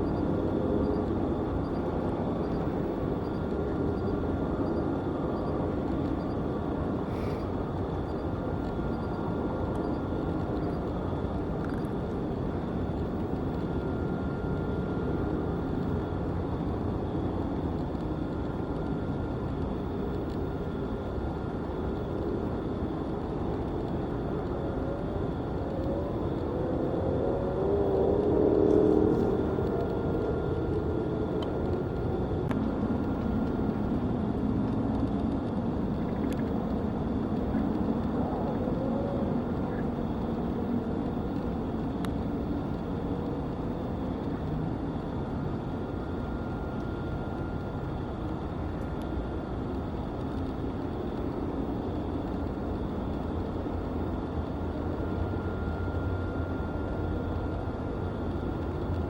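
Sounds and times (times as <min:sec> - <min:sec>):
faint high hum: 0:00.0 - 0:59.0.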